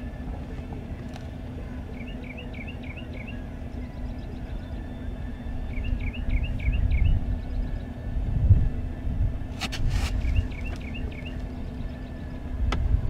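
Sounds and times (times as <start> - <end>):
songbird singing: 0.0 - 9.0, 9.9 - 13.0
steady low rumble: 0.0 - 13.0.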